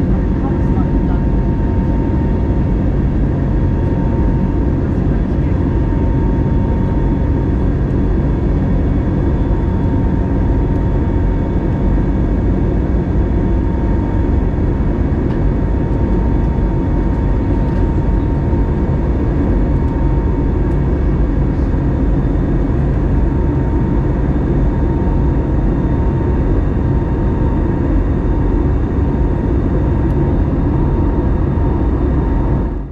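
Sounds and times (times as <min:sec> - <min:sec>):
airplane cabin engine rumble: 0:00.0 - 0:32.9.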